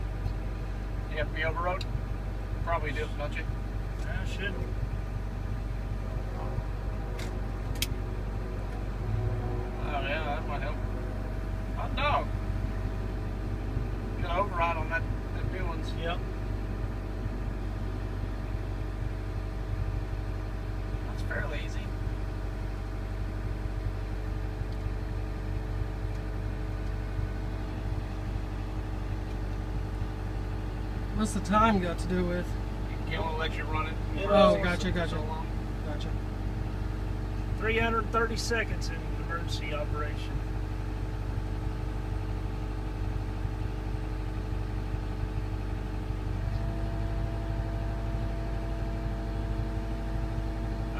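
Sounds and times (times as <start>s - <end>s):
crane engine and hydraulics running: 0.0s - 50.9s.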